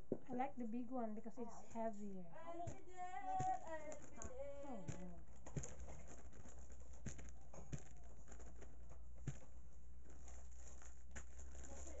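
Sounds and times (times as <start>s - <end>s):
plastic bag crinkling: 1.9s - 12.0s.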